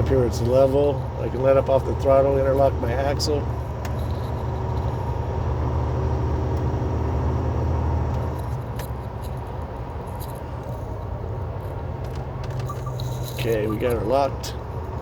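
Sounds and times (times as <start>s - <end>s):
road noise: 0.0s - 15.0s
truck diesel engine drone: 0.0s - 15.0s.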